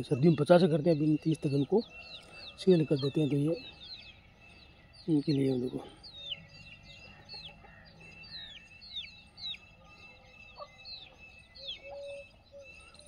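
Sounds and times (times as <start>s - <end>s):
chicks peeping: 0.0s - 12.2s.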